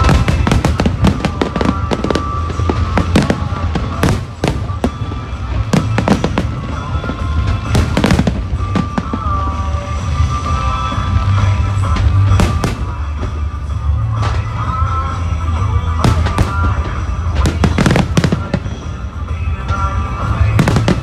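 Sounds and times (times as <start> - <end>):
fireworks bangs and crackling: 0.0 - 21.0
music playing: 0.0 - 21.0.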